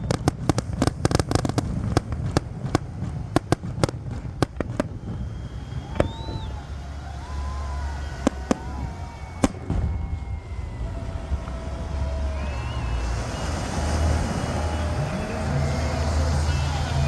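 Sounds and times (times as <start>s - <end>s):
fireworks bangs: 0.0s - 17.0s
low rumble of fireworks: 0.0s - 17.0s.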